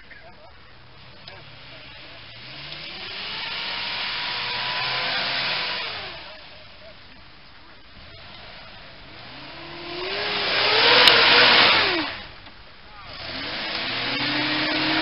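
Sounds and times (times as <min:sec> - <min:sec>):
engine revving hard: 0:00.8 - 0:07.0, 0:07.8 - 0:15.0.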